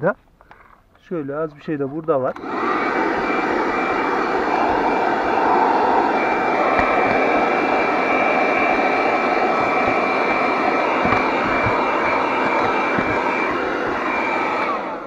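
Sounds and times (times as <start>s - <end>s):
handheld vacuum running: 2.3s - 15.0s.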